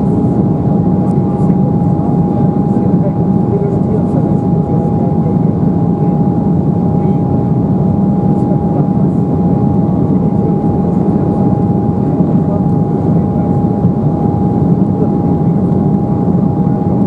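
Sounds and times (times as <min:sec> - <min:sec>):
constant high hum: 0:00.0 - 0:17.0
jet cabin rumble: 0:00.0 - 0:17.0.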